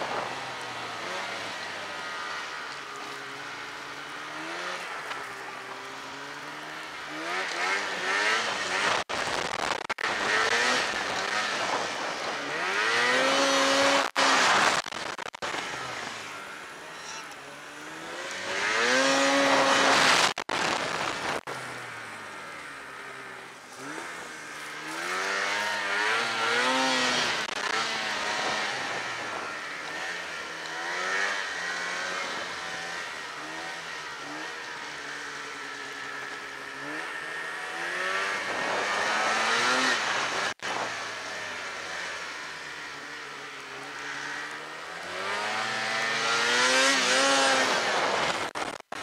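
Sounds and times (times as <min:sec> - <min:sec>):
snowmobile engine revving: 0:00.0 - 0:49.0.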